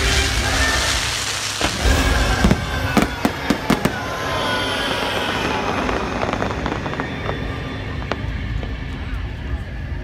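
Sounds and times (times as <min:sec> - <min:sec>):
fireworks hiss: 0:00.0 - 0:08.9
fireworks bursting: 0:00.0 - 0:09.9.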